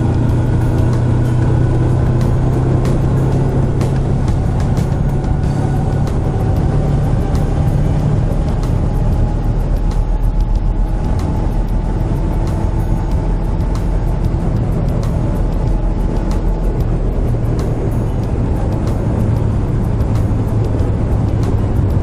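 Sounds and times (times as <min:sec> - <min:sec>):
motorcycle engine cruising: 0:00.0 - 0:22.0
wind noise: 0:00.0 - 0:22.0.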